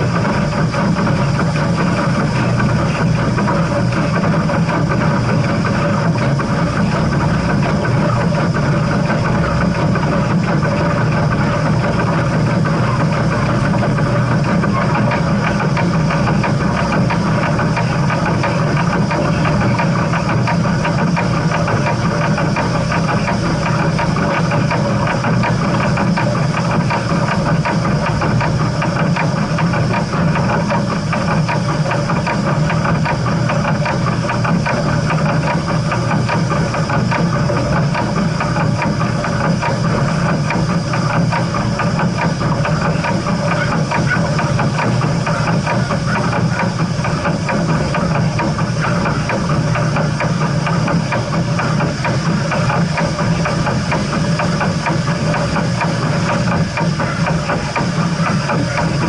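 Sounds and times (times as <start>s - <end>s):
steam train rumble: 0.0s - 59.0s.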